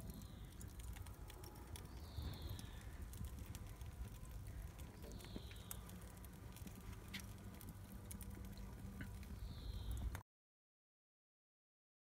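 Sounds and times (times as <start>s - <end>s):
grill fire crackling: 0.0s - 10.2s
low steady rumble: 0.0s - 10.2s.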